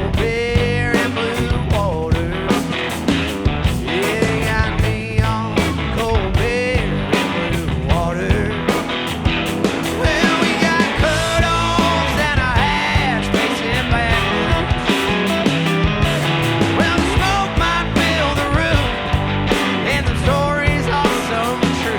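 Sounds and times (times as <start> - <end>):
blues-rock band playing: 0.0 - 21.9.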